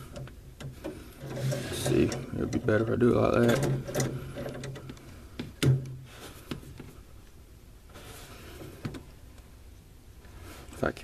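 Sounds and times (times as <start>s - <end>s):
faint clicks and scrapes: 0.0s - 9.5s.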